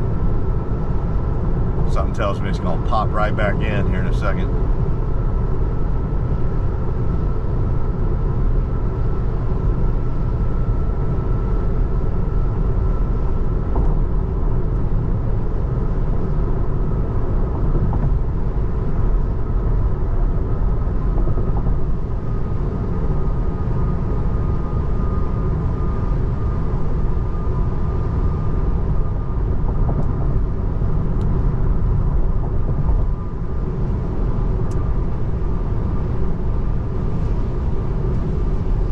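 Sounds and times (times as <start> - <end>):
road and tyre rumble in car: 0.0 - 38.9
thin steady whine: 0.0 - 38.9.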